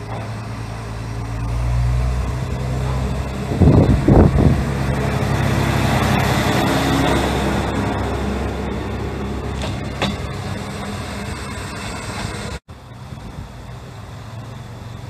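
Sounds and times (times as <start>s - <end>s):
diesel railcar engine droning: 0.0s - 15.0s
loud buffeting of passing train: 0.0s - 15.0s.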